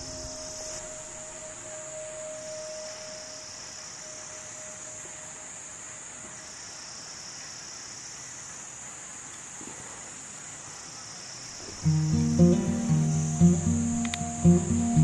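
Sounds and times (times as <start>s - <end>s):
insect chorus buzzing: 0.0s - 9.6s, 10.2s - 15.0s
faint hiss: 0.0s - 15.0s.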